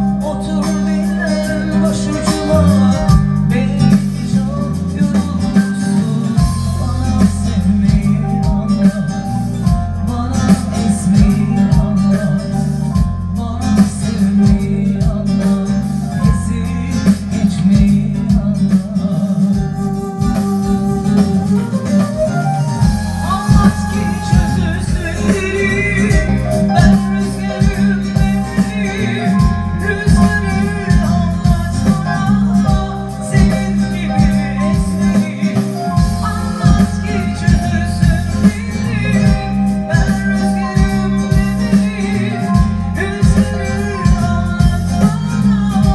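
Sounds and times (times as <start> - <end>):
bass: 0.0 - 45.9
keyboard melody: 0.0 - 45.9
plucked string backing: 0.0 - 45.9
steady drum beat: 0.0 - 45.9.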